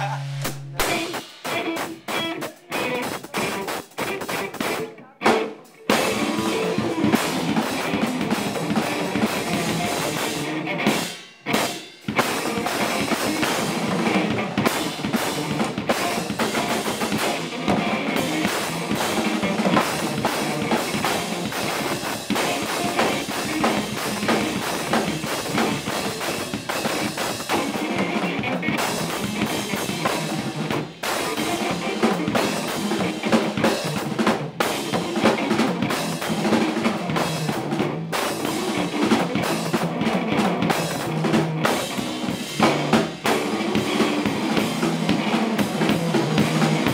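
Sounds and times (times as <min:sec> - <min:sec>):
bass drum and snare: 0:00.0 - 0:46.9
guitar: 0:00.0 - 0:46.9
rock band playing live: 0:00.0 - 0:46.9.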